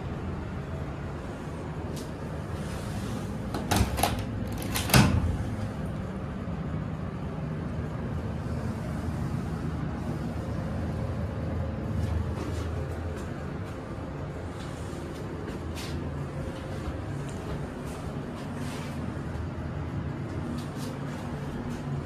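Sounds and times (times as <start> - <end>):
elevator car hum: 0.0 - 22.0.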